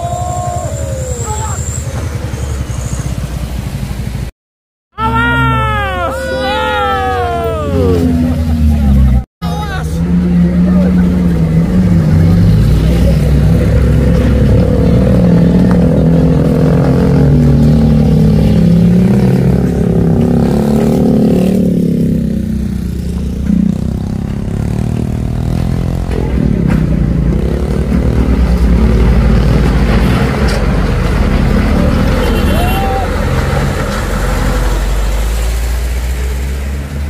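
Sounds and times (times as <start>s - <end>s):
truck engines revving: 0.0s - 4.3s, 5.1s - 37.0s.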